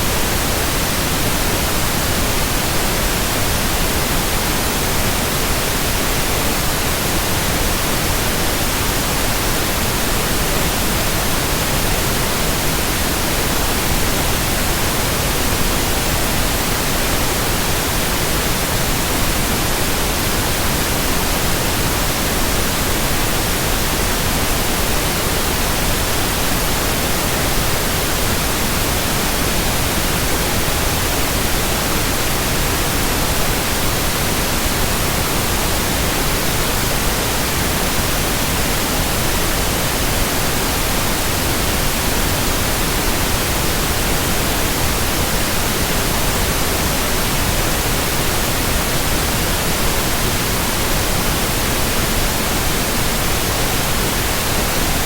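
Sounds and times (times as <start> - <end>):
white-noise hiss: 0.0 - 55.0.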